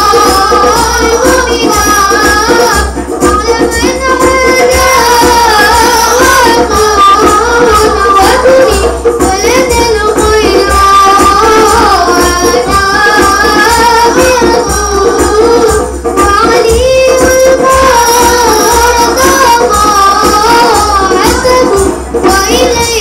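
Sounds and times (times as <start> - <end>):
boys singing in unison: 0.0 - 23.0
hand percussion rhythm: 0.0 - 23.0.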